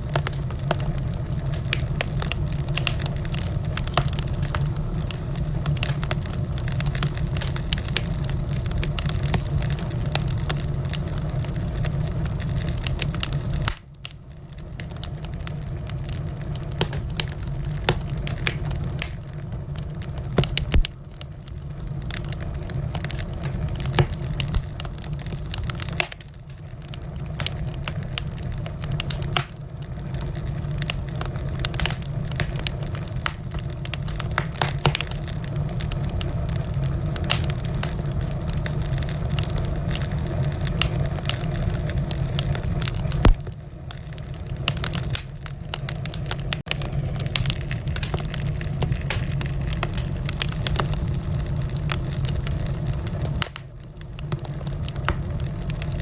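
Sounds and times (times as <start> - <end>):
fire pops and snaps: 0.0 - 56.0
low rumble of burning: 0.0 - 56.0.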